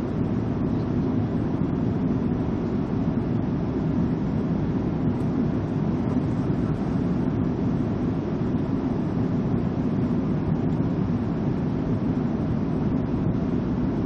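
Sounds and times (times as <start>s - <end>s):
airliner rumble with hiss: 0.0s - 14.0s.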